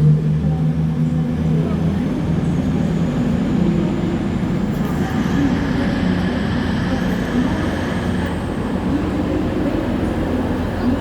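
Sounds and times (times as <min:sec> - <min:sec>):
train low rumble: 0:00.0 - 0:11.0
high-pitched train whine: 0:02.0 - 0:11.0.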